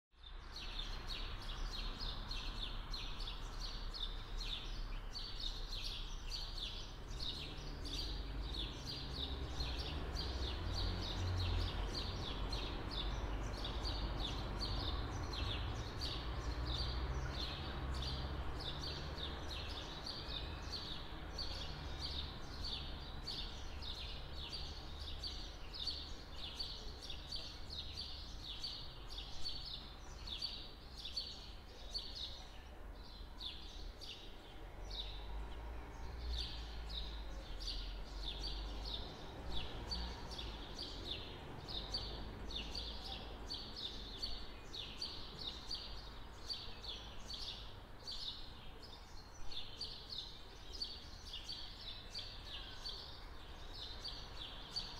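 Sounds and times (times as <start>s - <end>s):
small birds chirping: 0.1s - 54.9s.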